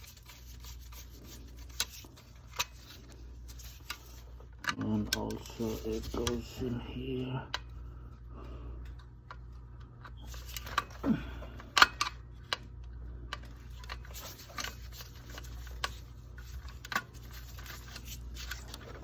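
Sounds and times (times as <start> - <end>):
furnace humming: 0.0 - 19.0.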